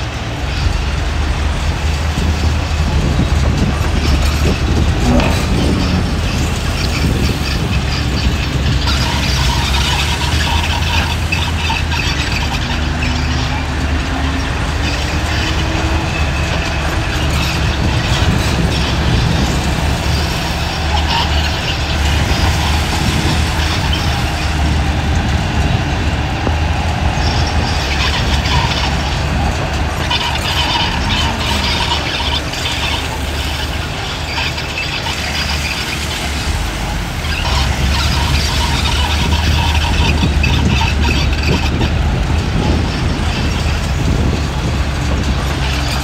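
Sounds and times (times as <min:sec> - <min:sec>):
crawler tracks clanking and squealing: 0:00.0 - 0:46.0
diesel engine drone: 0:00.0 - 0:46.0.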